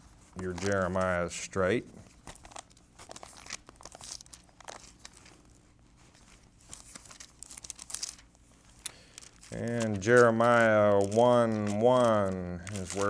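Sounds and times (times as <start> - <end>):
thin pages rustling: 0.0 - 1.4, 2.0 - 13.0
faint room hum: 0.0 - 13.0.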